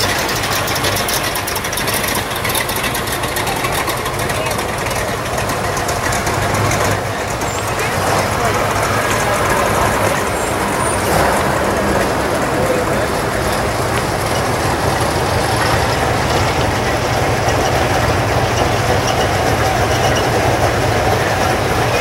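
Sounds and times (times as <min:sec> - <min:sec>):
car engines passing slowly: 0:00.0 - 0:22.0
voices of onlookers: 0:00.0 - 0:22.0.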